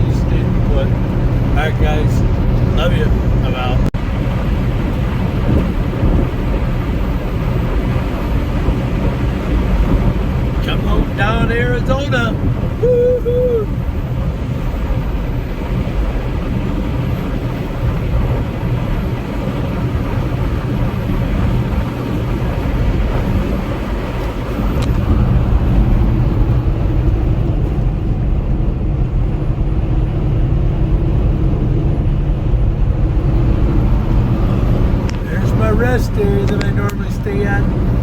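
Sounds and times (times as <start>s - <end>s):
truck engine and road rumble: 0.0s - 38.0s.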